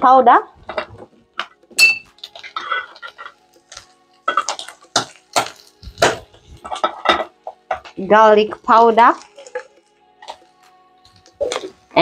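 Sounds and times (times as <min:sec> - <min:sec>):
faint background music: 0:00.0 - 0:12.0
spice containers clicking and knocking: 0:00.6 - 0:12.0.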